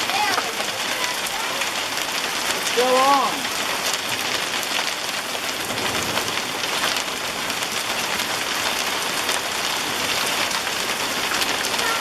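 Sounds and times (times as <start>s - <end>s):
hail clattering: 0.0s - 12.0s.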